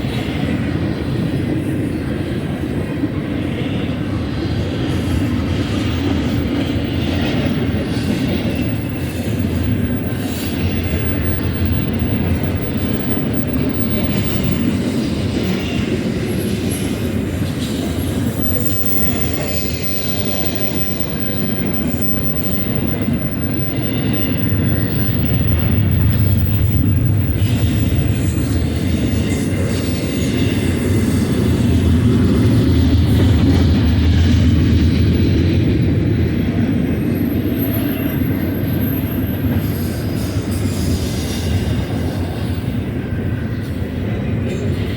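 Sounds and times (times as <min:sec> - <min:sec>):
freight train rumble and wheel clatter: 0:00.0 - 0:44.9.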